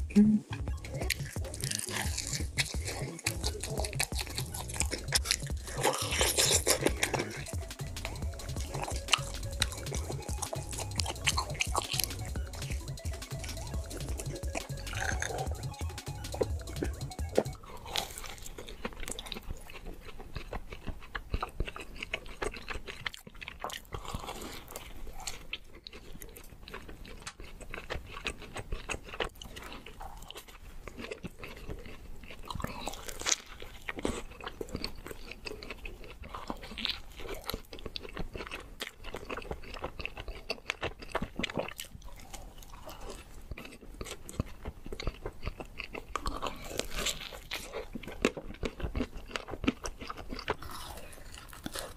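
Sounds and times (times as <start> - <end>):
person chewing doughnuts: 0.0 - 51.9.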